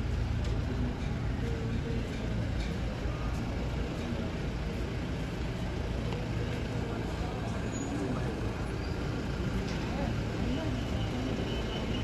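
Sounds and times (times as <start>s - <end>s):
people talking in background: 0.1s - 12.0s.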